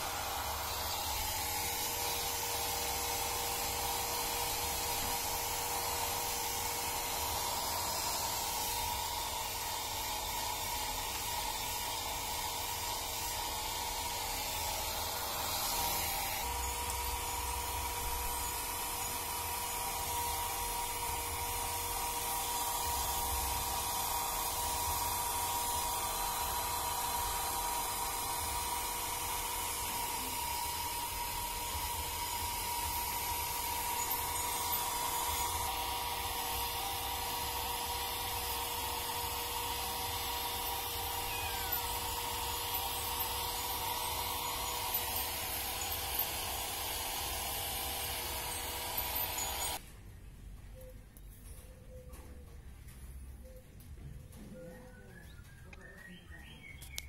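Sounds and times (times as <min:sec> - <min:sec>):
hair dryer running: 0:00.0 - 0:49.8.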